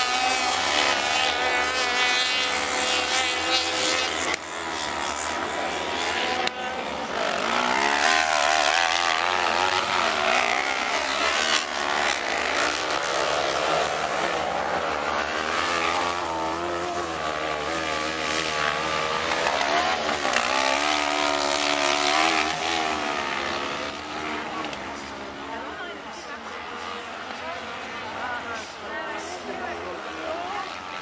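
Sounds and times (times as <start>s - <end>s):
buggy engines revving: 0.0s - 31.0s.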